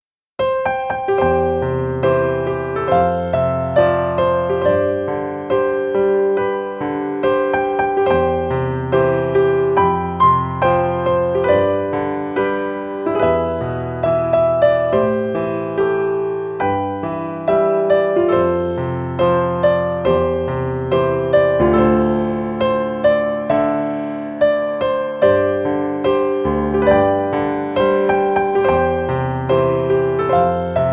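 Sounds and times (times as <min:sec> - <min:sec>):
gentle electric piano melody: 0:00.4 - 0:30.9.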